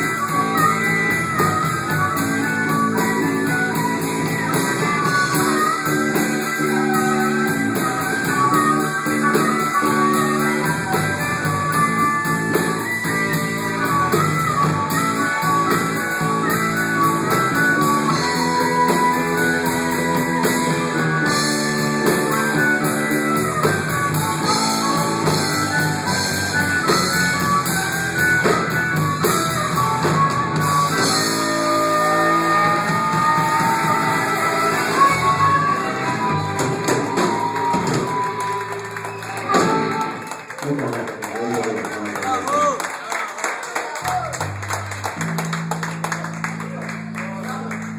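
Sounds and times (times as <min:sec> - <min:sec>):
guitar melodic runs: 0:00.0 - 0:40.6, 0:44.4 - 0:47.9
drums: 0:00.0 - 0:43.0, 0:43.9 - 0:47.9.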